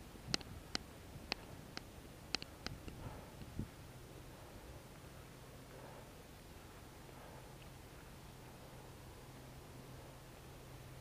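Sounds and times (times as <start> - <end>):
faint steady hiss: 0.0 - 11.0
low hum: 0.0 - 11.0.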